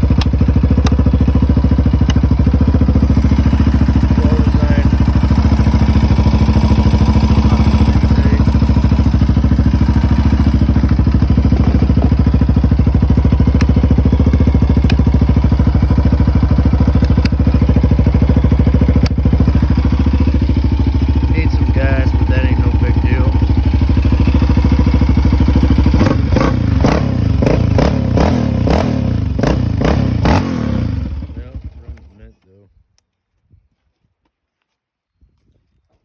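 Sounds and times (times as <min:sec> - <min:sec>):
single-cylinder engine idling: 0:00.0 - 0:32.0.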